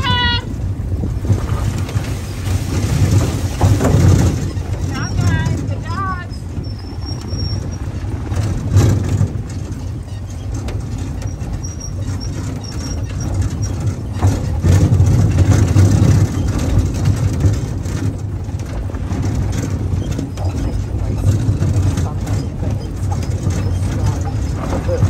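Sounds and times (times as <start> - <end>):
cart rolling over gravel: 0.0 - 25.0
knocks and rattles: 0.0 - 25.0.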